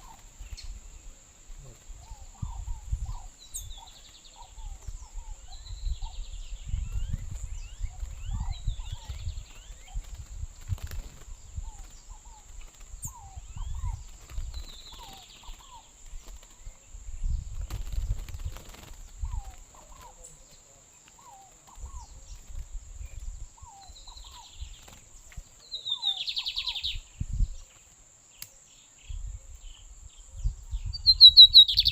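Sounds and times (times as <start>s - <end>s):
bird buzzy song bursts: 0.0s - 31.9s.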